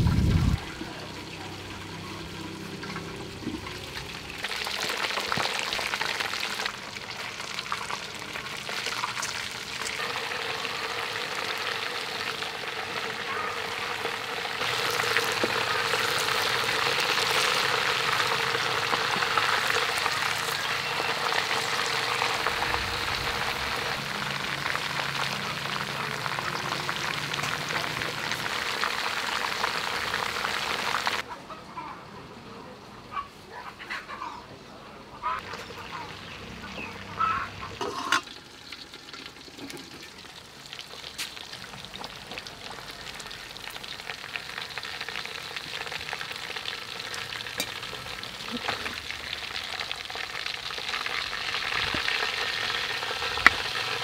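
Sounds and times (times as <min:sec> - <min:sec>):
fish frying in hot oil: 0:00.0 - 0:31.2, 0:37.8 - 0:54.0.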